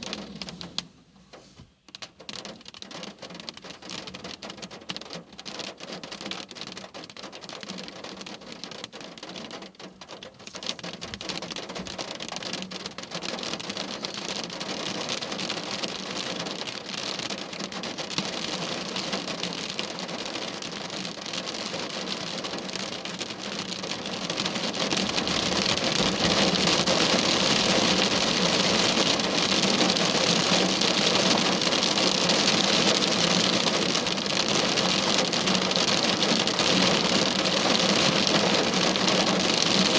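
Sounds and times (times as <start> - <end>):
heavy rain: 0.0 - 0.9, 1.9 - 39.9.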